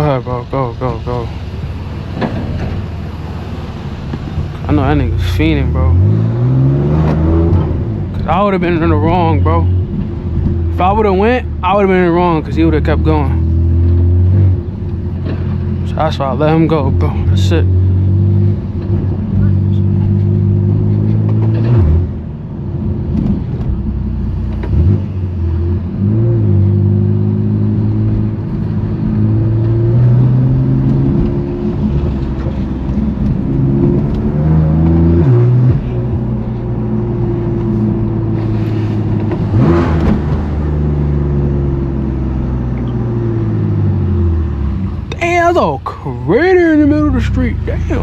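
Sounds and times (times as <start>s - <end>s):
car engine while driving: 0.0s - 48.0s.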